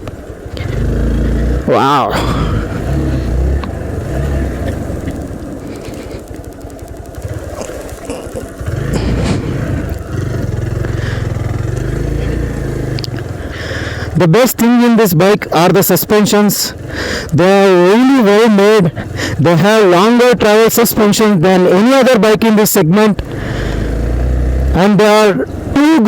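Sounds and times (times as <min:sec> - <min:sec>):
motorcycle engine running at low speed: 0:00.0 - 0:26.0.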